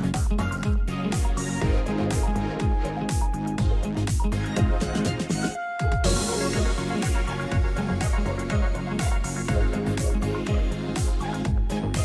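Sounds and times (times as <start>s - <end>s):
electronic music with sliding bass: 0.0s - 12.0s.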